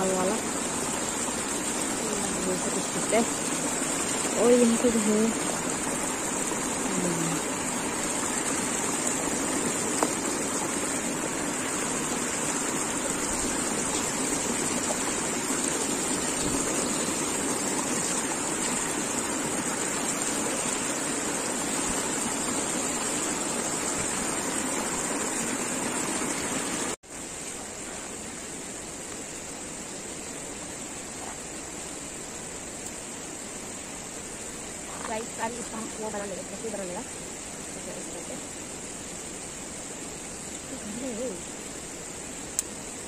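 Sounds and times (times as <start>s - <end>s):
river rushing: 0.0s - 43.0s.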